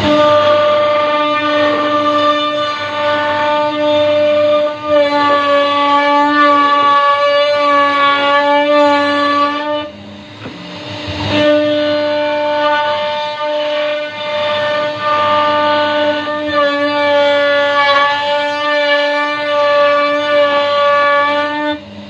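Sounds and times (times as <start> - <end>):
cnc router spindle whine: 0.0 - 22.0.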